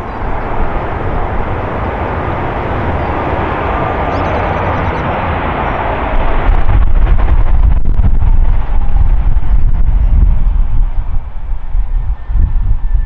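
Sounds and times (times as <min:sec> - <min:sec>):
jet engines in reverse thrust: 0:00.0 - 0:13.0.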